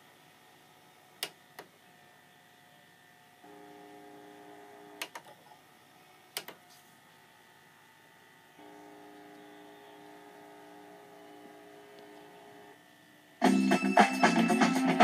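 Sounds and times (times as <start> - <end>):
faint electrical buzz: 0.0 - 13.5.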